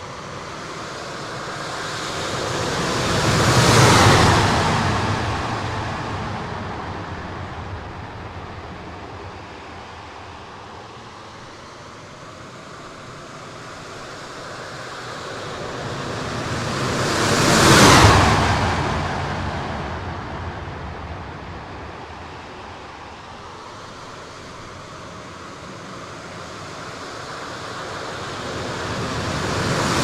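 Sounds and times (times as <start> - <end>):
model jet passing with whoosh: 0.0 - 30.0.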